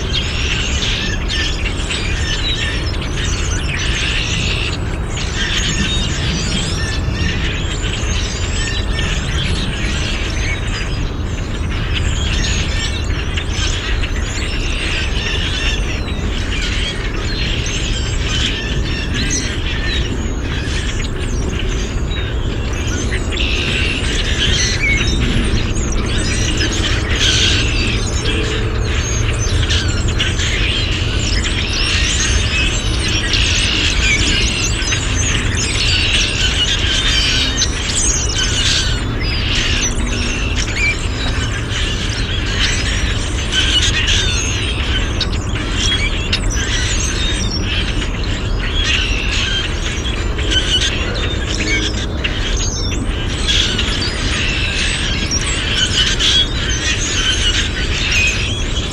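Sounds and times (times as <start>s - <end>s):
flock of birds calling: 0.0s - 58.9s
steady low rumble: 0.0s - 58.9s.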